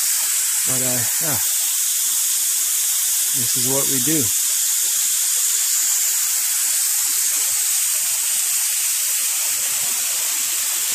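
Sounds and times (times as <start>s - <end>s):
waterfall pouring: 0.0s - 10.9s.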